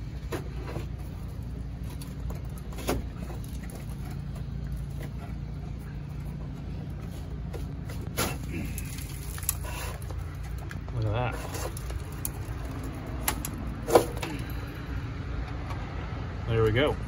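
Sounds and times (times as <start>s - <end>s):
wire scraping: 0.0s - 14.9s
steady low hum: 0.0s - 17.0s.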